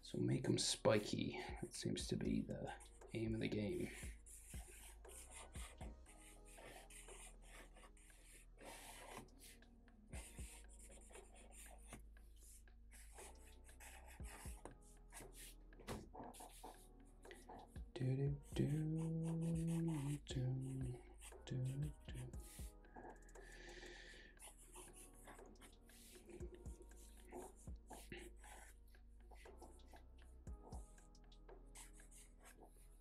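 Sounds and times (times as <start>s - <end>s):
faint background music: 0.0s - 33.0s
marker scratching on paper: 2.7s - 9.6s, 10.2s - 23.8s, 24.4s - 33.0s.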